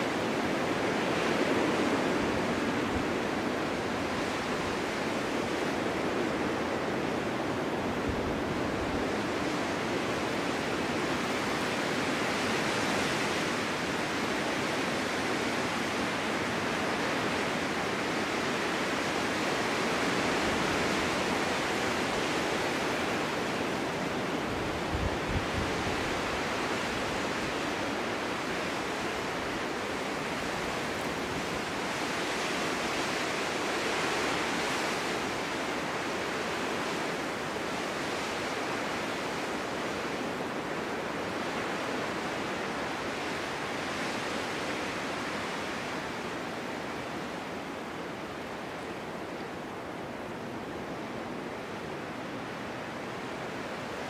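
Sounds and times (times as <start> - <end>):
snowstorm wind rushing: 0.0 - 54.0.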